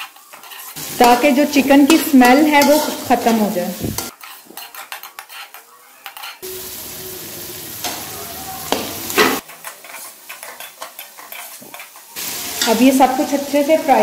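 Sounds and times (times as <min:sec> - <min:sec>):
metal spatula scraping a pan: 0:00.0 - 0:08.2, 0:09.0 - 0:14.0
food sizzling in oil: 0:00.0 - 0:14.0.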